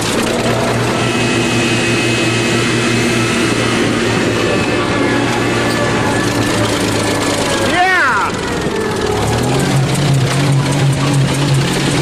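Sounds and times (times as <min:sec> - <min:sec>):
bulldozer engine running: 0:00.0 - 0:12.0
car engine at high revs: 0:00.0 - 0:12.0.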